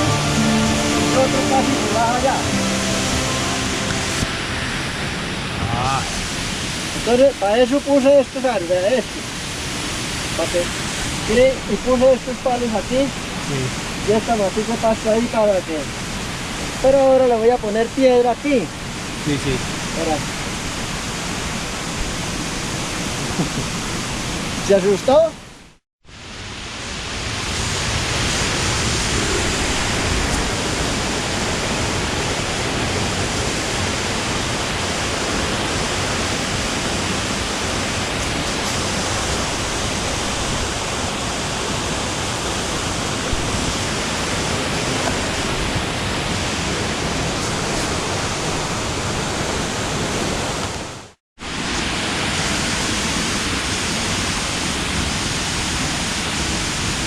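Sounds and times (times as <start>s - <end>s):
waterfall rushing: 0.0s - 25.2s, 26.1s - 57.0s.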